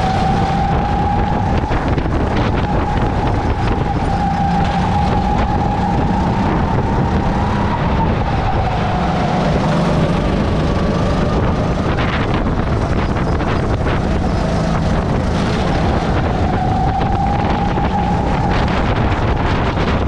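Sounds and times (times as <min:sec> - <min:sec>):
kart engine running at speed: 0:00.0 - 0:20.0.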